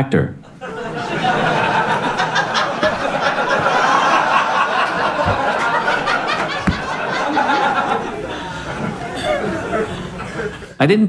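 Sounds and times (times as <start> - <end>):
audience laughing: 0.4 - 10.8.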